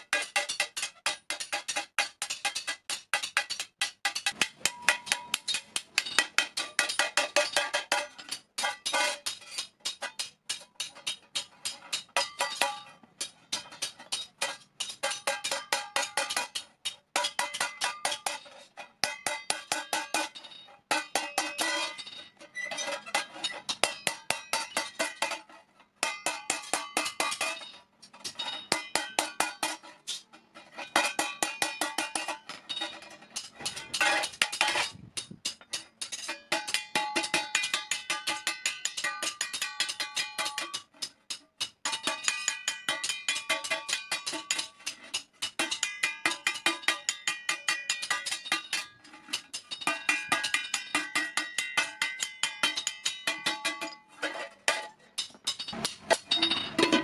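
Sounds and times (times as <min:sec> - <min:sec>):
hammer striking metal plate: 0:00.0 - 0:22.2, 0:26.0 - 0:54.0, 0:54.7 - 0:57.0.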